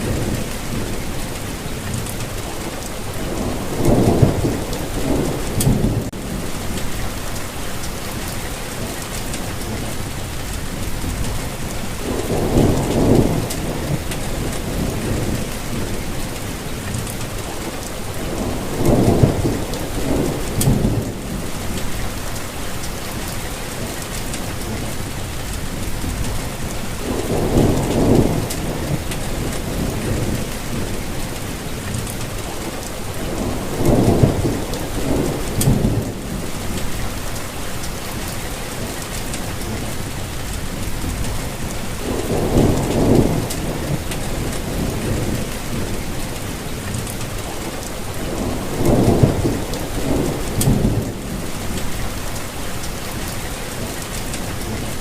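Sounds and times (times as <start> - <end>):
distant thunder rumbles: 0.0 - 8.8, 10.7 - 23.8, 24.5 - 55.0
rain falling: 0.0 - 55.0.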